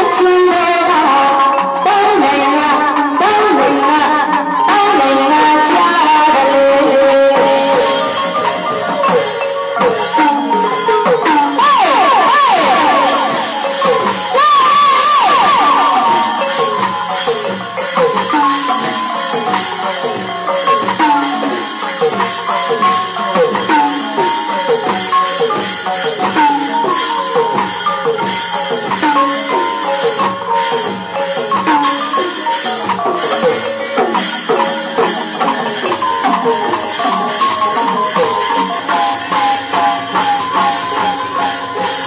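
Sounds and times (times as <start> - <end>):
shaker rhythm: 0.0 - 42.0
tuned percussion melodic runs: 0.0 - 42.0.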